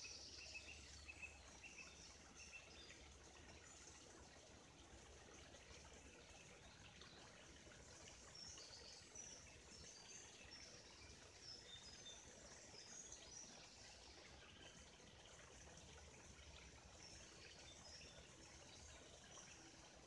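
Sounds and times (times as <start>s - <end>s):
running stream: 0.0s - 20.0s.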